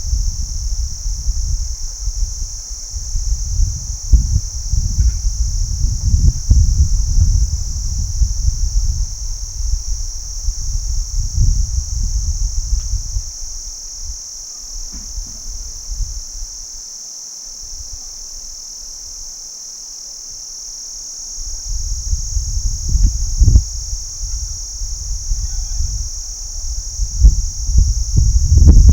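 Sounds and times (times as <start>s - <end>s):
crickets chirring: 0.0s - 28.9s.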